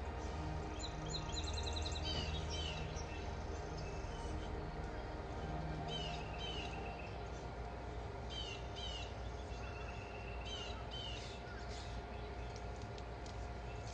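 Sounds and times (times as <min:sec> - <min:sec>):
steady low rumble: 0:00.0 - 0:13.9
bird chirping: 0:00.1 - 0:07.5, 0:08.2 - 0:12.8.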